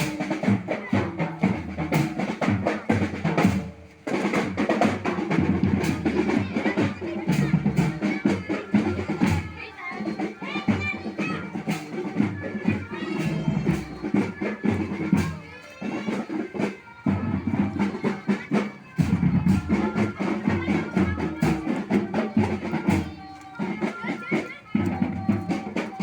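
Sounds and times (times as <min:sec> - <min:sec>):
marching band drums: 0:00.0 - 0:26.0
wind instrument melody: 0:00.1 - 0:26.0.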